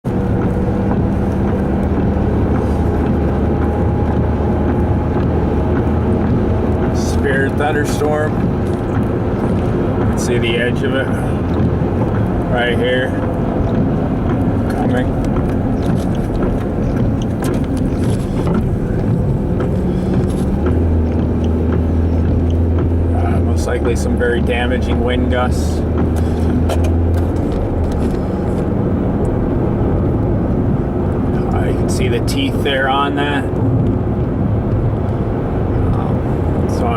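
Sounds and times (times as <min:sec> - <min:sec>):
car engine hum: 0:00.0 - 0:36.9
road noise: 0:00.0 - 0:36.9.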